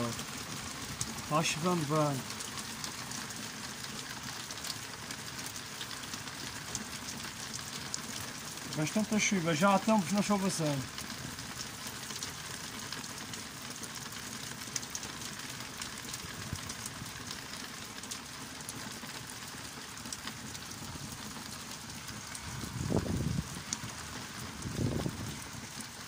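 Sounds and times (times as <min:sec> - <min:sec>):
heavy rain: 0:00.0 - 0:26.0
raindrop ticks: 0:00.0 - 0:26.0.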